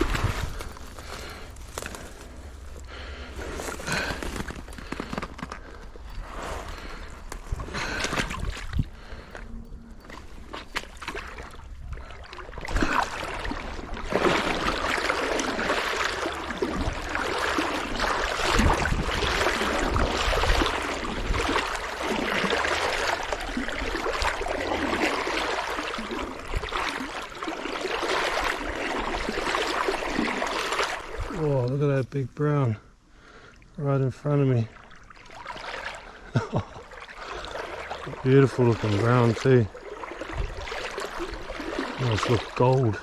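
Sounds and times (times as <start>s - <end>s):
stream water rushing and gurgling: 0.0s - 5.3s, 6.0s - 32.7s, 33.8s - 43.0s.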